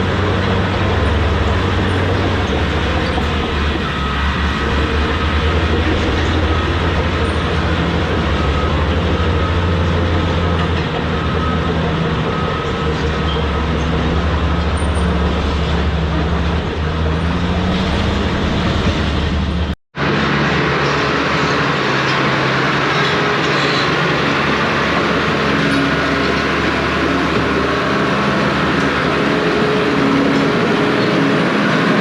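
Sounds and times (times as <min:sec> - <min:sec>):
diesel engine drone: 0:00.0 - 0:32.0.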